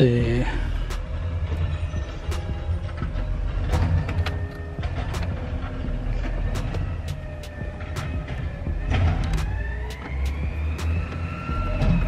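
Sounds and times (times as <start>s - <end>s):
faint whining tones: 0.0s - 12.0s
garbage truck diesel engine rumbling: 0.0s - 12.0s.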